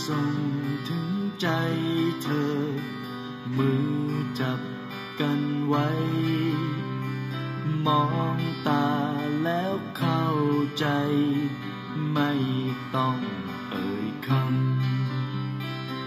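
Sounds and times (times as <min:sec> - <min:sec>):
music from small speakers: 0:00.0 - 0:16.0.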